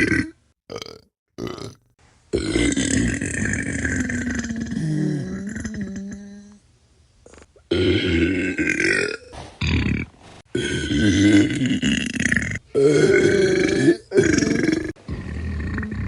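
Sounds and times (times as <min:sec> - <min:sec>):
person burping: 0:00.0 - 0:06.5, 0:07.3 - 0:16.0.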